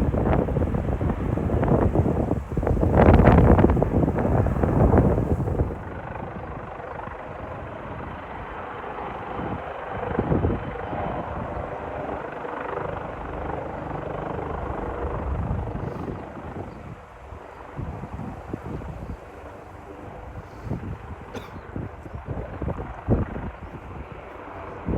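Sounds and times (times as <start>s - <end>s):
wind buffeting microphone: 0.0s - 8.4s, 9.3s - 12.2s, 14.3s - 24.9s
helicopter rotor drone: 0.0s - 24.9s.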